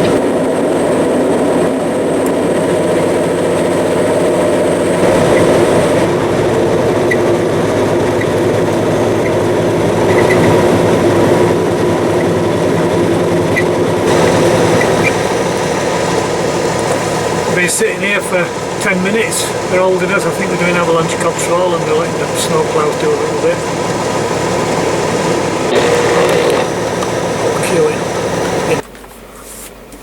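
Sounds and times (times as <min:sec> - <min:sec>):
heavy vehicle engine rumbling: 0:00.0 - 0:28.9.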